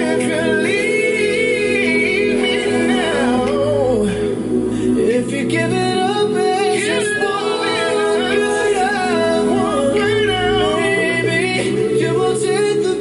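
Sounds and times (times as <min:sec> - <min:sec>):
a cappella pop song over speakers: 0:00.0 - 0:13.0.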